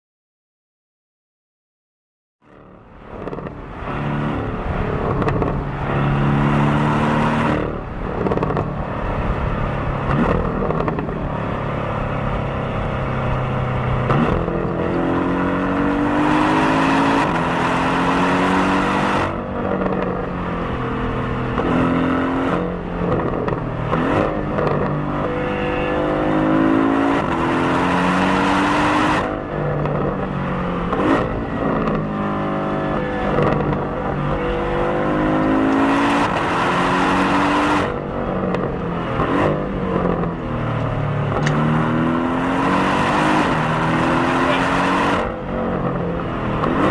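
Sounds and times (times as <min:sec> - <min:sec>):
car engine accelerating: 0:02.4 - 0:46.9.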